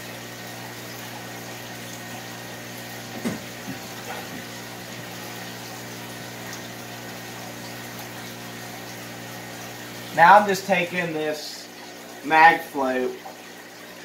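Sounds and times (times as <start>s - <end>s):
aquarium pump hum: 0.0s - 14.0s
running water: 0.0s - 14.0s.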